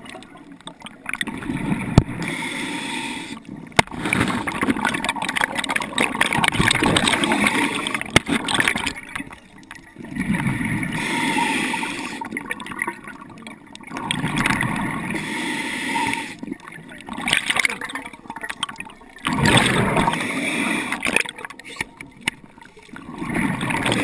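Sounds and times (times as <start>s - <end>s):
underwater bubbling: 0.0s - 24.0s.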